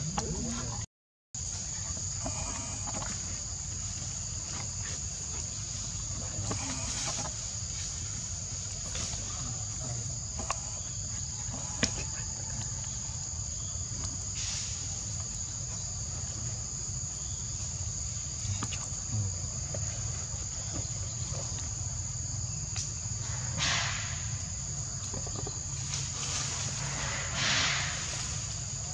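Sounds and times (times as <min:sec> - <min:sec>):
insect chorus: 0:00.0 - 0:28.9.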